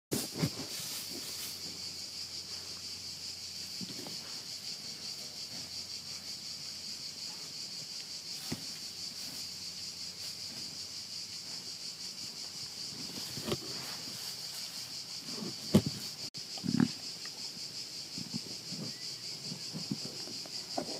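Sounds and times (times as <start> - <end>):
insect chorus chirring: 0.1 - 20.9.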